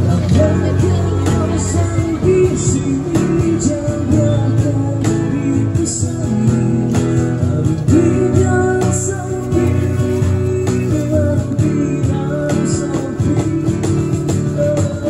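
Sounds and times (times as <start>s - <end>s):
acoustic guitar strumming: 0.0s - 15.0s
cajon tapping: 0.0s - 15.0s
man singing: 0.0s - 15.0s.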